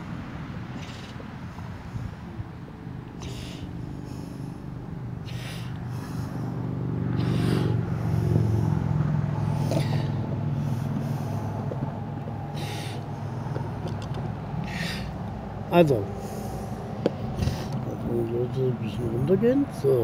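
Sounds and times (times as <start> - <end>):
vehicle driving past: 0.0 - 20.0.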